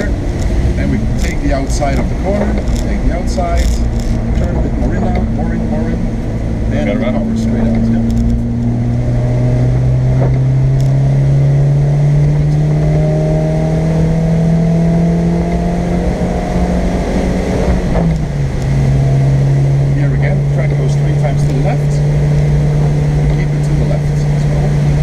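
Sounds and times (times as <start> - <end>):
car engine accelerating: 0.0 - 25.0
road noise: 0.0 - 25.0.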